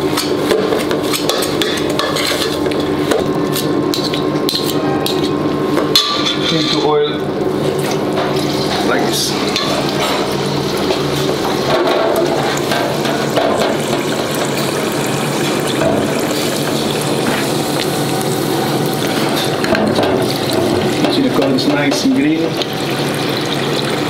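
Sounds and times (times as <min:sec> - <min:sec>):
oil sizzling and bubbling: 0:00.0 - 0:24.0.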